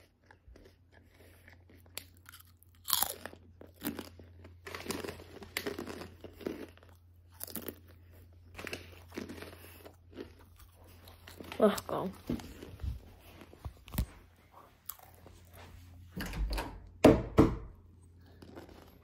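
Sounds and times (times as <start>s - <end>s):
chips crunching and chewing: 0.0s - 14.1s, 14.8s - 15.6s, 18.1s - 19.0s.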